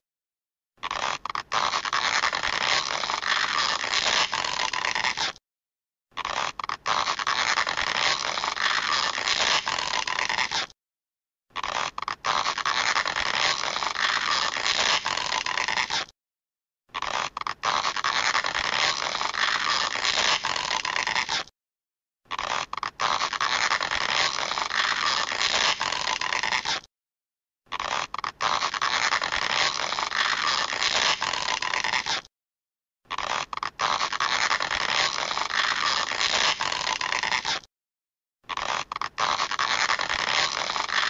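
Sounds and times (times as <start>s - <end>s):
noisy stretching sound with clicks: 0.8s - 5.4s, 6.1s - 10.8s, 11.5s - 16.2s, 16.9s - 21.6s, 22.3s - 26.9s, 27.7s - 32.3s, 33.1s - 37.7s, 38.4s - 41.0s.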